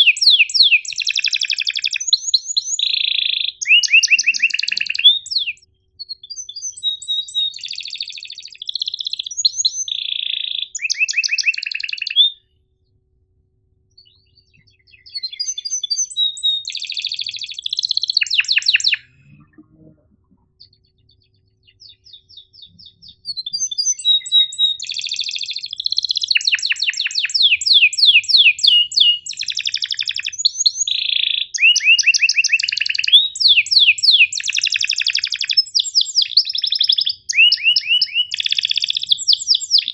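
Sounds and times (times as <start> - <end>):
canary singing: 0.0 - 12.5, 14.0 - 39.9.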